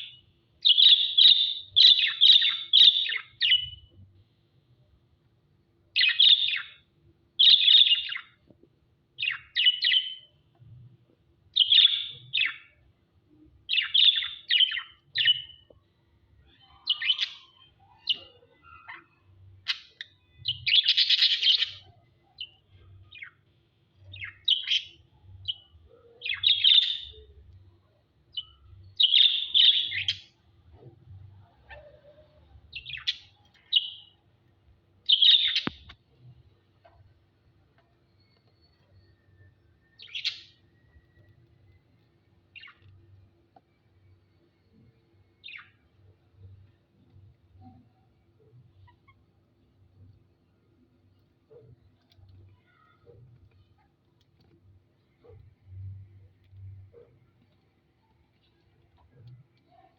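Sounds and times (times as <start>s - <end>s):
pet birds chirping: 0.0s - 4.1s, 5.9s - 8.5s, 9.2s - 10.8s, 11.5s - 59.9s.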